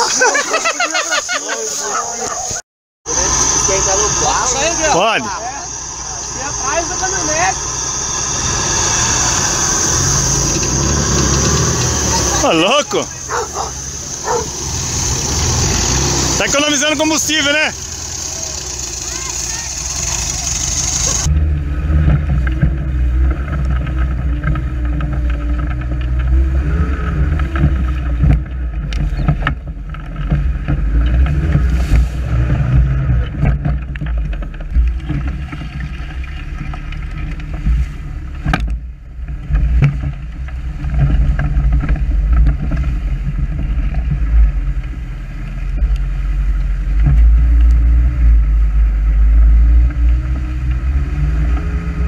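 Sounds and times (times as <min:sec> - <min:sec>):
buggy engine rumbling: 0:00.0 - 0:52.0.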